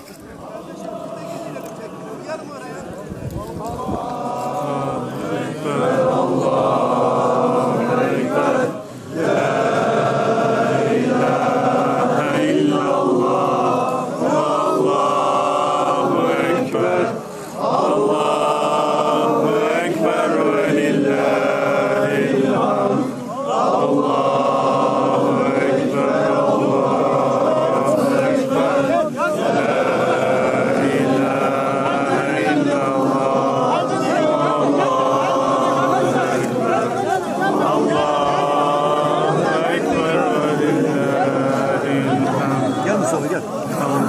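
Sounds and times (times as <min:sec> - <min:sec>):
crowd of men chanting: 0:00.0 - 0:44.0.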